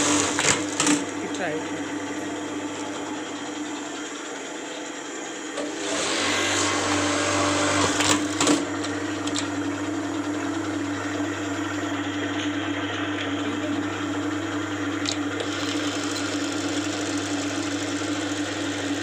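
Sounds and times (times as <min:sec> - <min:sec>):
sewing machine motor hum: 0:00.0 - 0:19.0.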